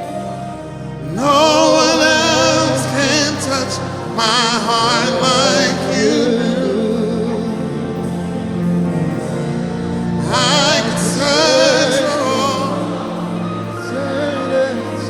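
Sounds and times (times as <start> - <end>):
sustained keyboard chords: 0.0 - 15.0.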